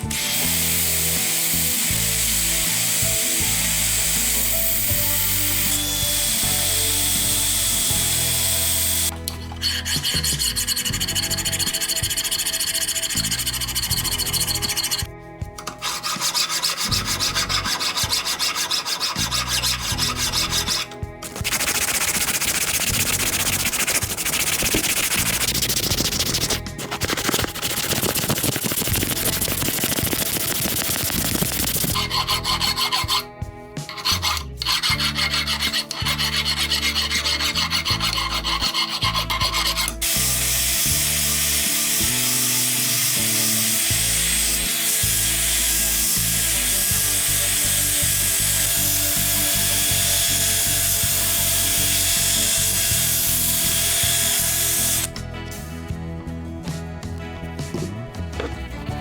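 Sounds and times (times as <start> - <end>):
rasping filing strokes: 0.0 - 55.1.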